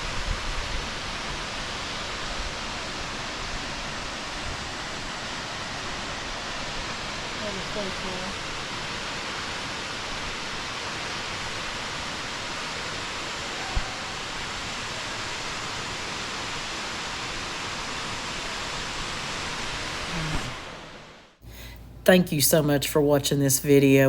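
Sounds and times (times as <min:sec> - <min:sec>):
waterfall roaring: 0:00.0 - 0:21.1.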